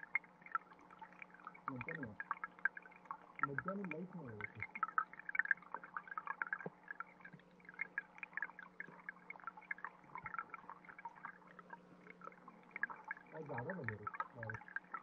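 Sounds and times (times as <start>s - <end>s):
stream water trickling underwater: 0.0s - 15.0s.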